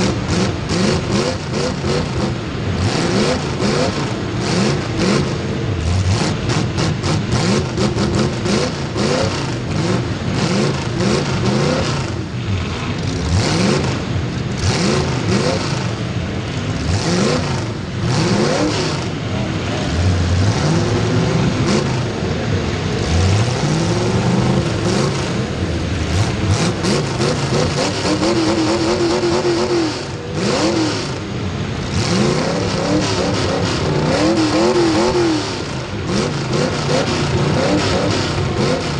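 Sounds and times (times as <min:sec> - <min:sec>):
racing engines revving: 0:00.0 - 0:38.9.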